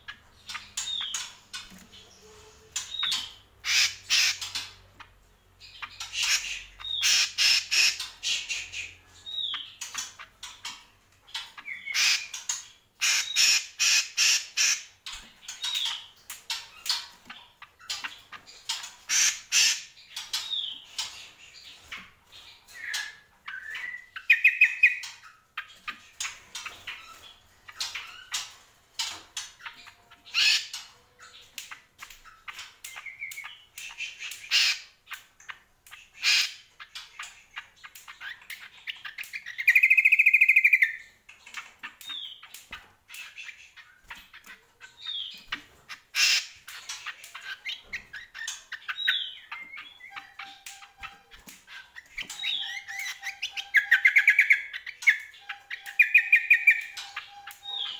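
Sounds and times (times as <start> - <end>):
bird chirps and squawks: 0.5 - 4.9, 5.7 - 17.1, 17.8 - 21.2, 26.2 - 31.5, 33.4 - 35.0, 35.9 - 37.4, 38.0 - 57.9.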